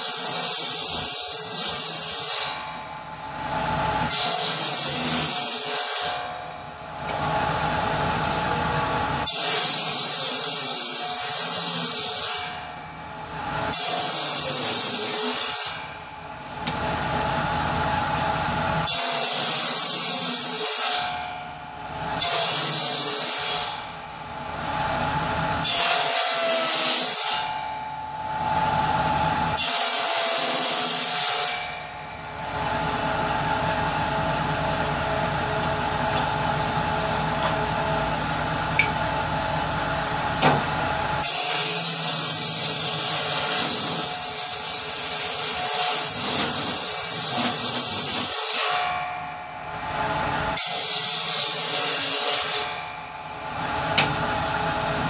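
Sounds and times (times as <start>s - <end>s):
power saw cutting wood: 0.0s - 6.4s, 7.0s - 16.0s, 16.6s - 21.3s, 22.0s - 49.0s, 49.7s - 55.0s.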